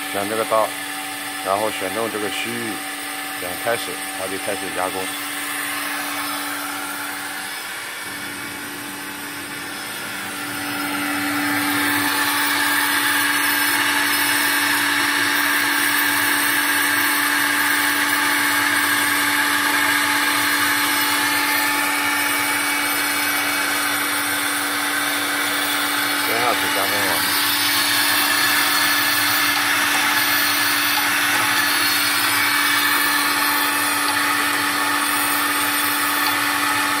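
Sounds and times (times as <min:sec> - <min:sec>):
spindle whirring hum: 0:00.0 - 0:37.0.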